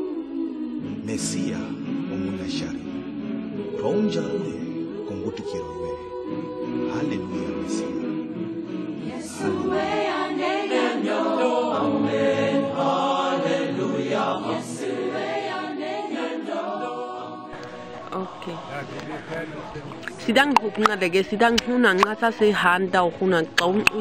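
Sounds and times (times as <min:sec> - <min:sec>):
a cappella choir singing: 0:00.0 - 0:24.0.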